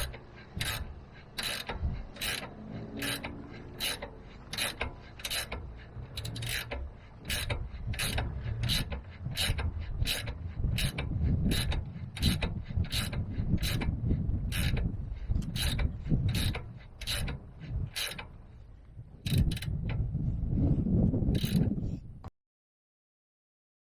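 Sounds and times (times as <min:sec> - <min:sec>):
mechanical clicking: 0:00.0 - 0:18.6, 0:19.2 - 0:20.0
low rumble: 0:00.0 - 0:22.3.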